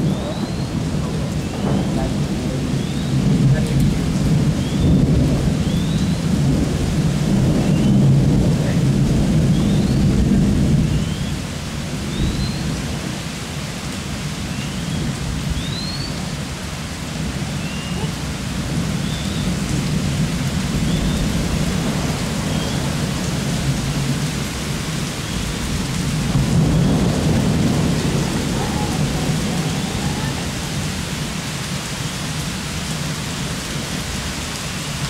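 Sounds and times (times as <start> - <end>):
rolling thunder: 0.0 - 13.6, 14.2 - 34.0
rain hissing: 0.0 - 35.0.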